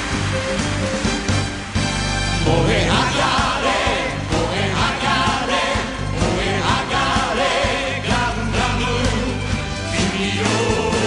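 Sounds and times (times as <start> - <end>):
live band playing upbeat song: 0.0 - 11.0
steady drum beat: 0.7 - 11.0.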